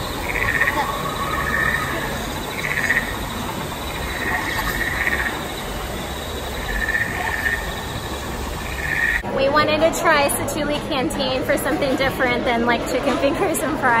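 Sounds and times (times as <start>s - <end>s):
steady high buzz: 0.0s - 12.7s.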